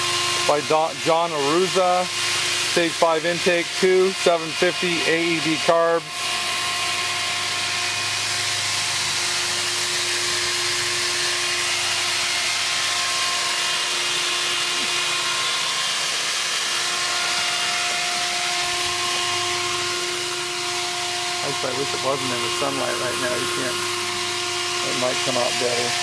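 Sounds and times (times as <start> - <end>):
small motor whining: 0.0 - 26.0.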